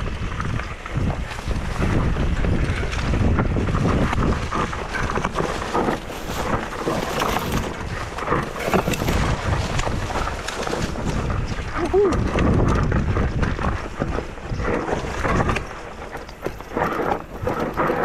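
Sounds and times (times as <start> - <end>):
mountain bike rattling over dirt: 0.0 - 18.0
wind buffeting microphone: 0.0 - 18.0.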